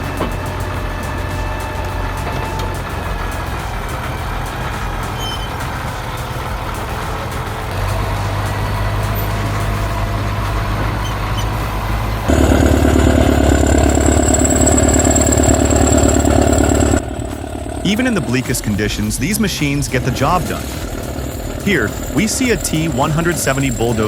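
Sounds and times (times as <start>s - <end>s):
bulldozer diesel engine running: 0.0s - 24.0s
high steady whine: 0.0s - 24.0s.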